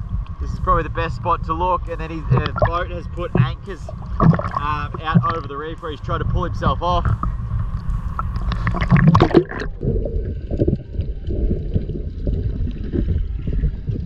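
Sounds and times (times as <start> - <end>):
muffled underwater rumble: 0.0 - 14.0
water splashing and gurgling: 0.0 - 14.0.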